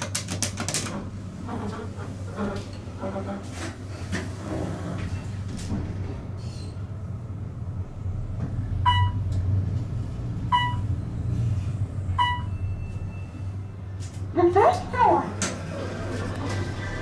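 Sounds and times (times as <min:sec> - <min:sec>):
elevator cab humming: 0:00.9 - 0:17.0.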